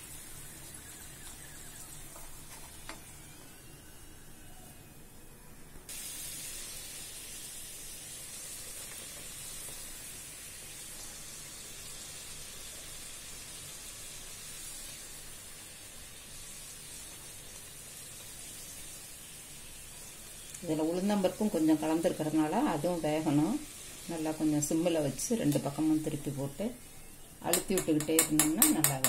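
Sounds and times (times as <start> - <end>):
food deep-frying in hot oil: 0.0 - 3.8, 5.9 - 29.0.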